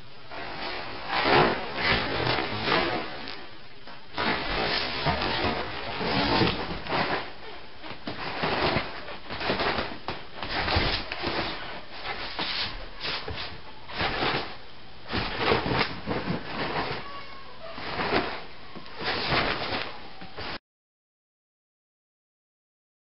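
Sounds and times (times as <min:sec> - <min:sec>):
bedsheets rustling: 0:00.3 - 0:20.6.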